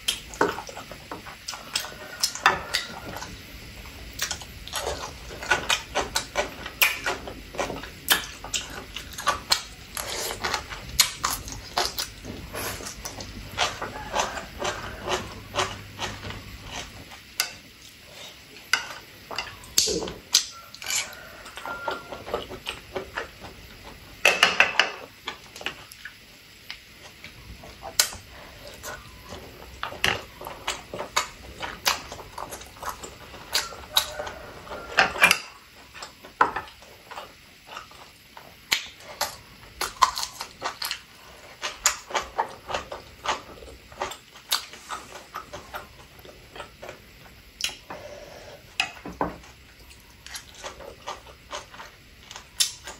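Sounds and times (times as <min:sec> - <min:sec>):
person chewing with wet smacking: 0:00.0 - 0:24.2, 0:25.0 - 0:52.9.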